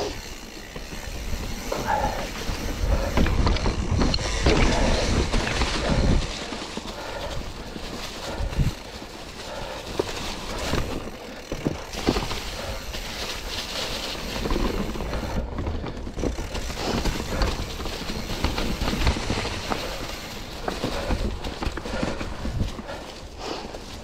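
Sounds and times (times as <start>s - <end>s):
mountain bike clattering over rocks: 0.0s - 23.2s.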